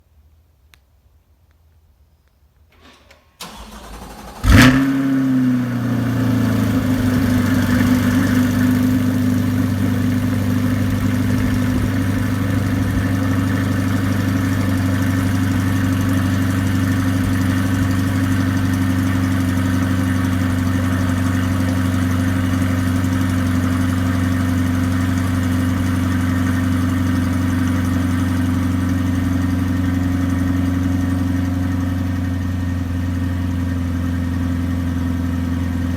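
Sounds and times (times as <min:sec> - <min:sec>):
car engine starting and idling: 0:02.7 - 0:35.9.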